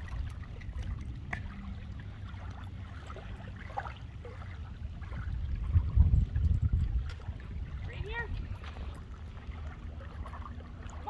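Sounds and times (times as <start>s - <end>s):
water lapping over gravel: 0.0s - 11.0s.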